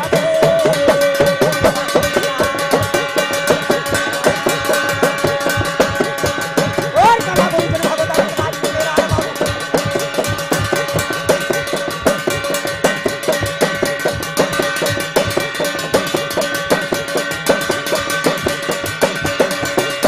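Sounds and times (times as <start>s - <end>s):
hourglass drum beaten fast: 0.0s - 20.0s
steady ringing tone: 0.0s - 20.0s.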